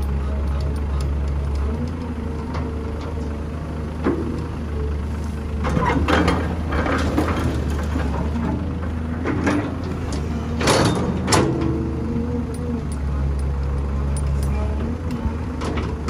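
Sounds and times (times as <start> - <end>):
diesel engines humming: 0.0 - 16.0
excavator bucket clanking and scraping: 0.0 - 16.0.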